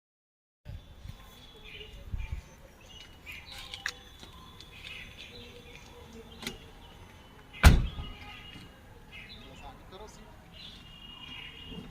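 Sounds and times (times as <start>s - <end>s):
birds chirping: 0.7s - 11.9s.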